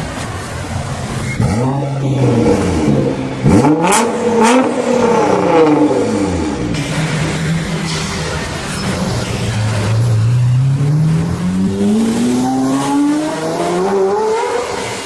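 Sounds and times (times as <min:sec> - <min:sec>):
sports car engine accelerating: 0:01.4 - 0:15.0.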